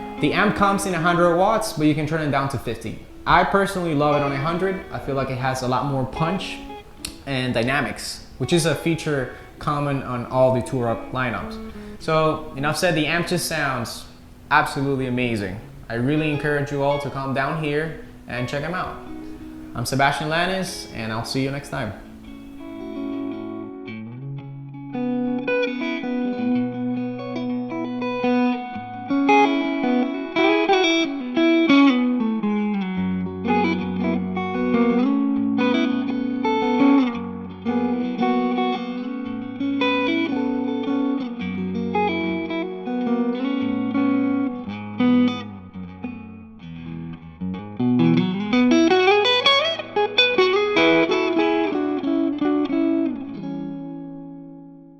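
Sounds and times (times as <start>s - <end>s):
electric guitar melody: 0.0s - 54.9s.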